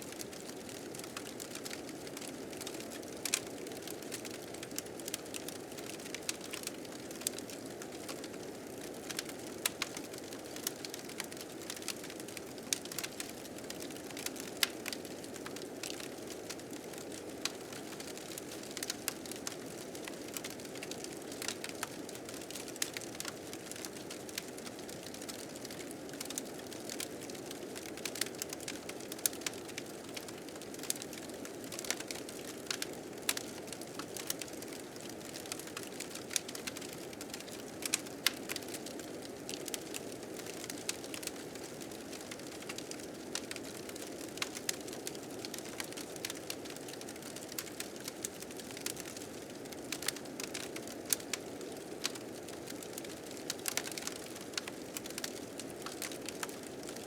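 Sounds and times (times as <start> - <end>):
fire crackling and popping: 0.2 - 57.0.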